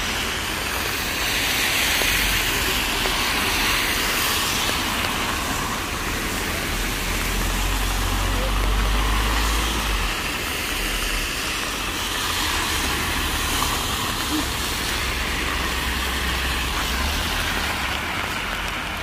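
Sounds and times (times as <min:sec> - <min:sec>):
car tyres spraying through water: 0:00.0 - 0:19.0
heavy rain: 0:00.0 - 0:19.0.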